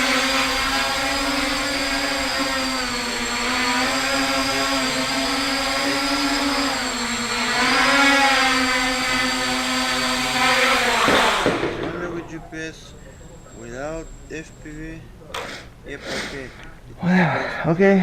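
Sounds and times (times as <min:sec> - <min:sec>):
quadcopter propellers buzzing: 0:00.0 - 0:16.5.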